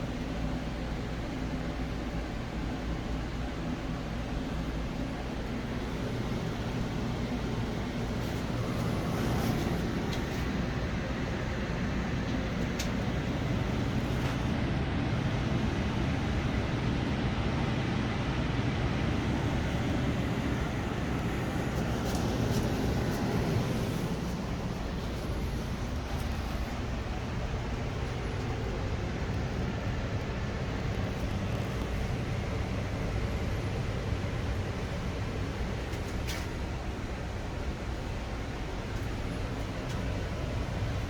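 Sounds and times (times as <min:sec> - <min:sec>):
furnace running: 0:00.0 - 0:41.0.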